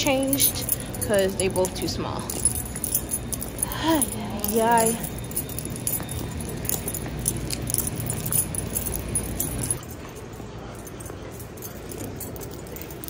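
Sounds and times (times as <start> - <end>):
keys jingling: 0.0 - 13.0.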